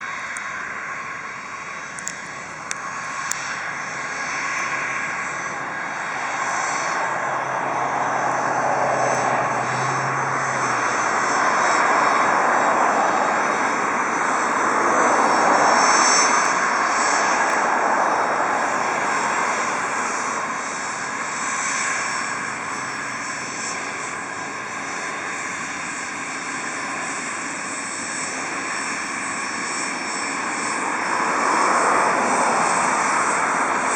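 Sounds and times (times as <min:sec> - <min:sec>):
airplane engine running: 0:00.0 - 0:33.9.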